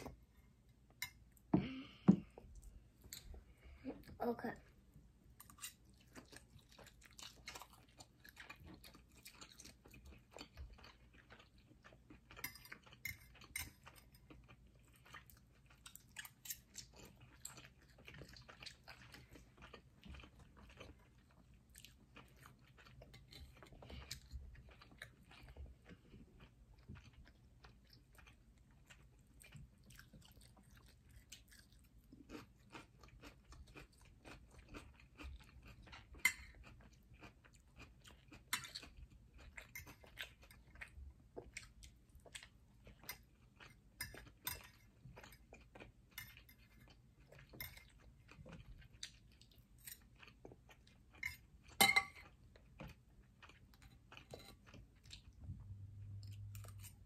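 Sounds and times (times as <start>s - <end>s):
people chewing and crunching: 0.0s - 57.0s.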